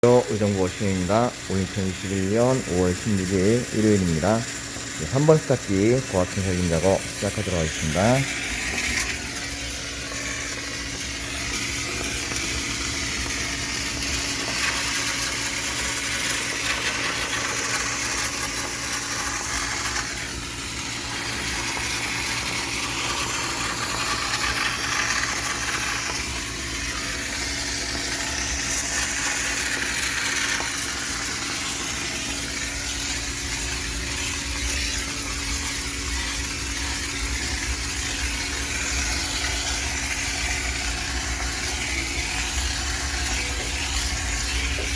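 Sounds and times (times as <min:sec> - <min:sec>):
machine humming: 0:00.0 - 0:44.9
steam jet hissing: 0:00.0 - 0:44.9.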